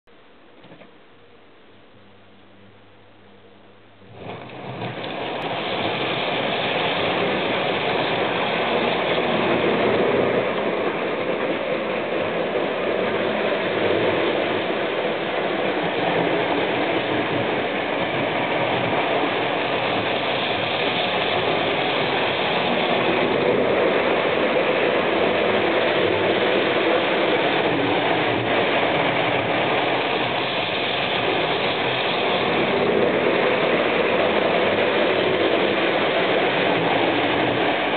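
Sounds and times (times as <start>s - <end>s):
wheels rolling on rails: 4.0s - 37.9s
model train motor whirring: 4.1s - 37.9s.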